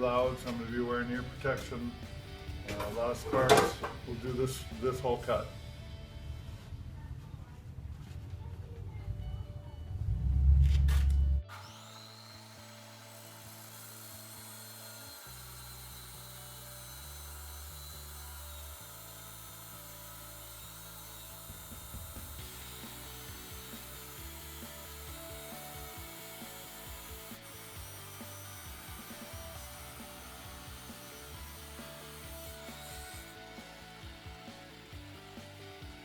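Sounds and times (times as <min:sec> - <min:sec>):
steel tubing being cut: 0:00.0 - 0:05.5, 0:11.5 - 0:36.0
quiet background music with bass: 0:00.0 - 0:11.5, 0:15.3 - 0:36.0.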